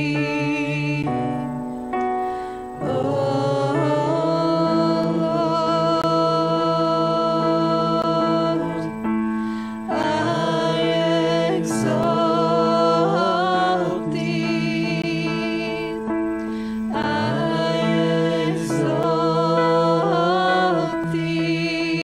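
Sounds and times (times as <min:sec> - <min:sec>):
group singing in harmony: 0:00.0 - 0:01.4, 0:02.6 - 0:22.0
electronic keyboard chords: 0:00.0 - 0:22.0.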